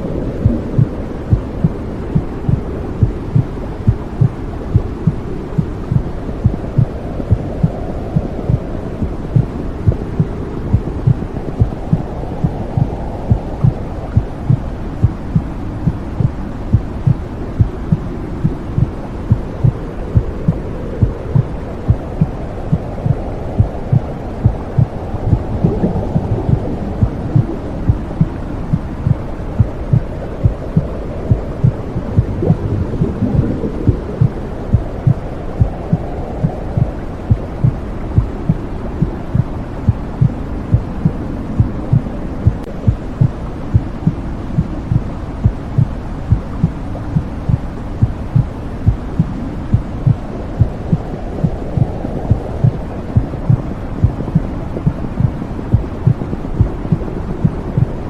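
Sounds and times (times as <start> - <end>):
low whooshing: 0.0 - 58.0
muffled heartbeat thumping: 0.0 - 58.0.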